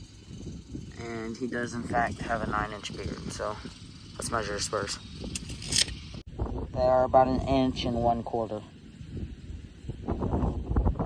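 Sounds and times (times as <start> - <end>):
wind buffeting microphone: 0.0 - 8.4, 9.0 - 11.0.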